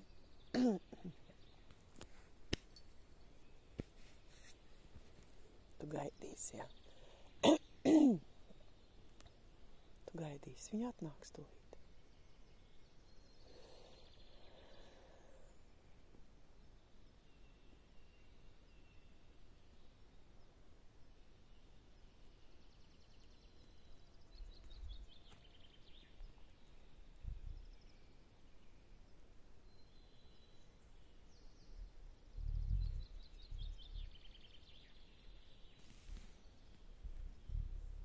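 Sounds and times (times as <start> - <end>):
songbird singing: 0.0 - 38.0
faint bird chirps: 5.8 - 38.0.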